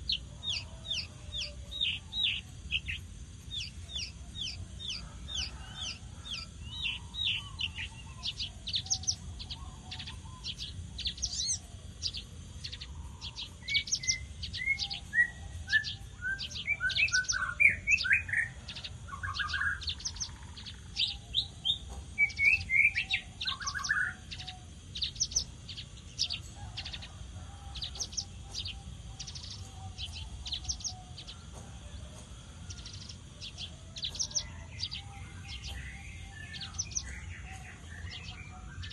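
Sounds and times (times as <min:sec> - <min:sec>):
bird singing fast chirps: 0:00.0 - 0:27.1, 0:27.7 - 0:31.5, 0:32.6 - 0:38.9.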